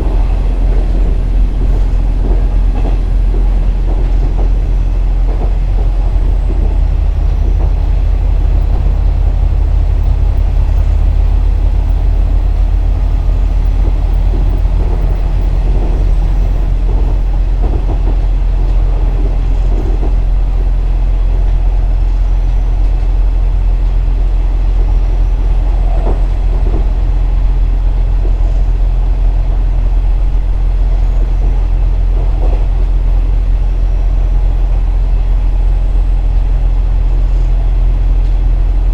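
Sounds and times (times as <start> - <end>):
diesel engine droning: 0.0 - 38.9
wheel and rail rumble: 0.0 - 38.9.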